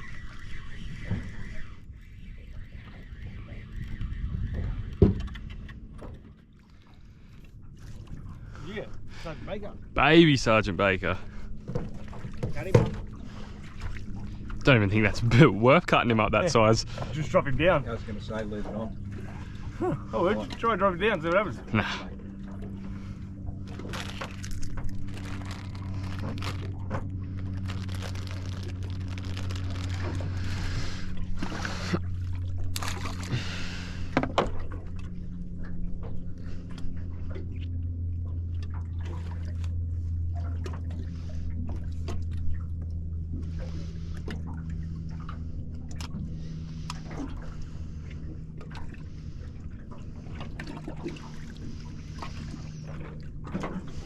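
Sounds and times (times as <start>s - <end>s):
boat motor humming: 0.0s - 54.0s
water splashing against hull: 0.0s - 54.0s.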